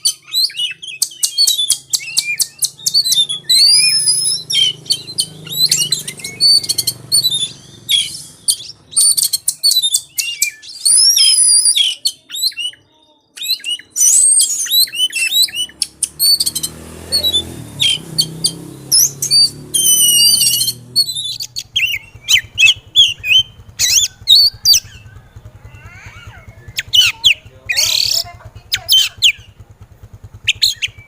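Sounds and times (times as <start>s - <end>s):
bird singing whistles and clicks: 0.0s - 12.7s, 13.4s - 25.2s, 26.6s - 29.5s, 30.4s - 31.0s.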